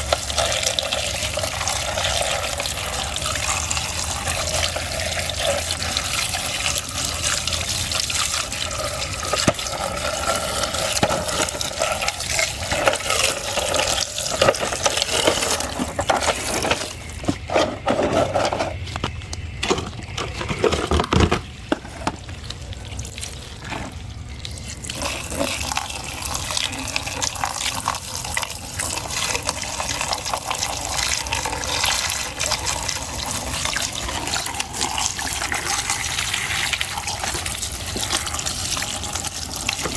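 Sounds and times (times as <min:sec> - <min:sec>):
running water splashing: 0:00.0 - 0:21.0, 0:21.8 - 0:39.9.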